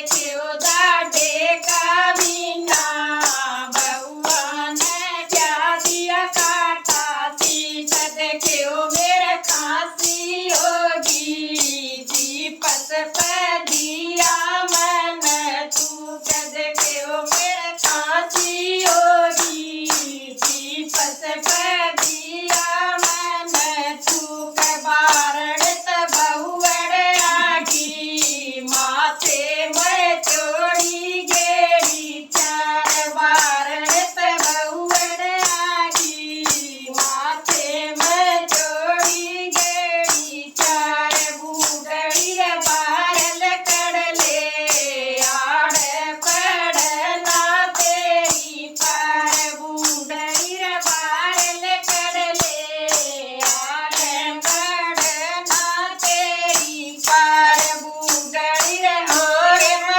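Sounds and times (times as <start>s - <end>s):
jingling percussion beat: 0.0s - 59.9s
woman singing: 0.0s - 59.9s.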